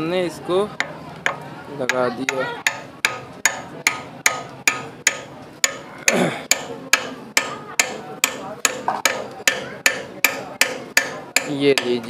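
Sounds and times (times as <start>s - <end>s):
hammer tapping on metal: 0.8s - 12.0s.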